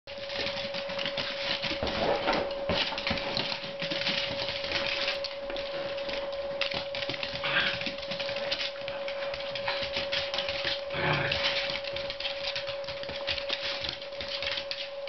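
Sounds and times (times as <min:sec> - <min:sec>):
dog paws pattering and clicking: 0:00.1 - 0:15.0.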